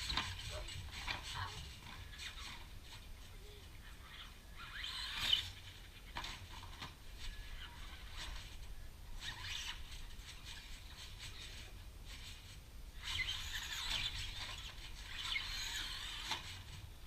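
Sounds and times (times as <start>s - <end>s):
rc car motor squealing: 0.0s - 2.7s, 3.4s - 6.4s, 7.2s - 16.8s.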